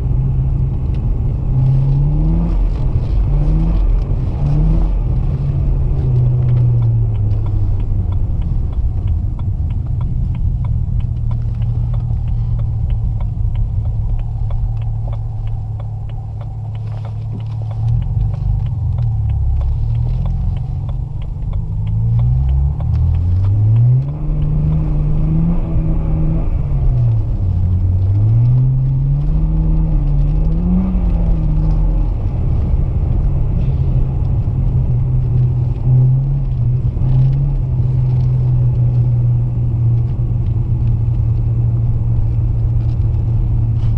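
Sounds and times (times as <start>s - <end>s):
car engine revving while driving: 0.0s - 43.9s.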